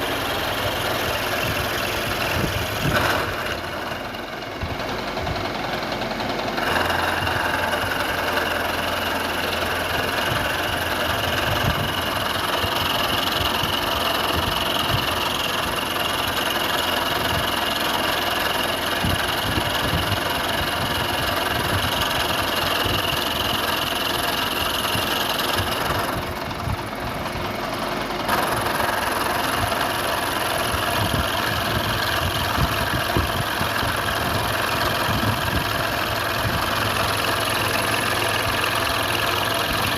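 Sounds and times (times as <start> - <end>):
machine-shop machinery whining: 0.0 - 39.9.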